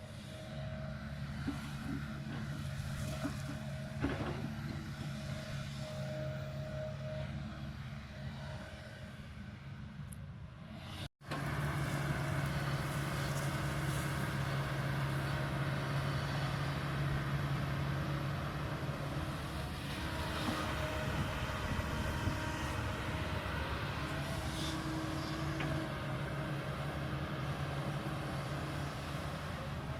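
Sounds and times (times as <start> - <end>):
excavator diesel engine humming: 0.0 - 10.0, 10.6 - 29.9.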